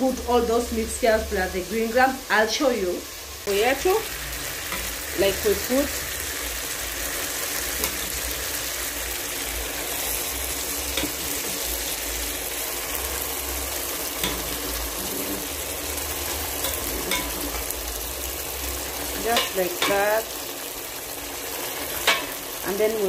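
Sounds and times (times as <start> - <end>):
sauce sizzling in a pot: 0.0 - 23.0.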